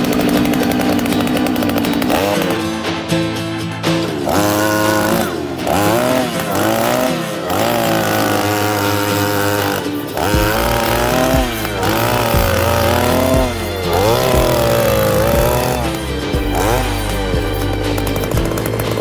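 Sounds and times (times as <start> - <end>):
earth auger engine running hard: 0.0 - 19.0.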